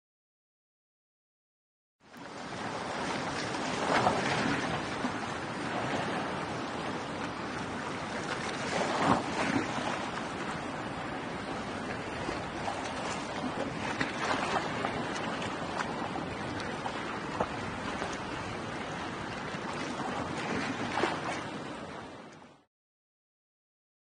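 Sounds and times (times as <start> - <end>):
shallow surf washing: 2.0 - 22.4.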